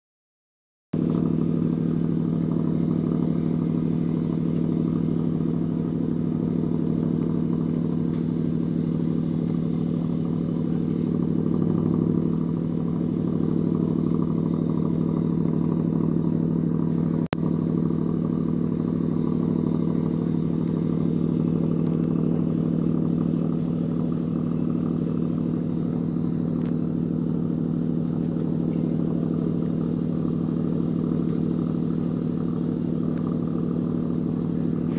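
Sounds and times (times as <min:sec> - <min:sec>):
anchor windlass machine hum: 0:01.0 - 0:34.9.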